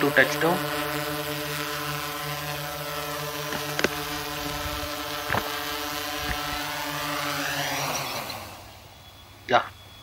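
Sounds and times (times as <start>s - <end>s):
quadcopter propellers humming: 0.0s - 10.0s.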